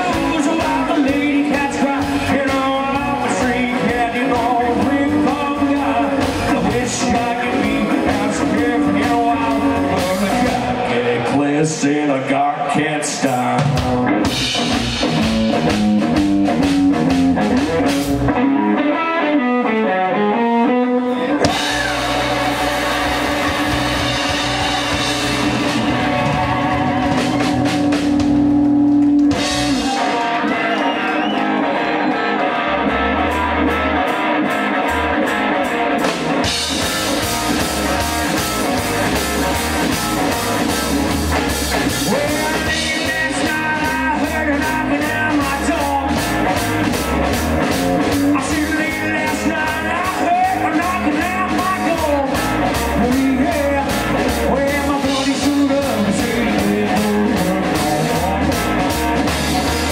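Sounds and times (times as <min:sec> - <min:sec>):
band playing: 0:00.0 - 0:59.9
electric guitar: 0:00.0 - 0:59.9.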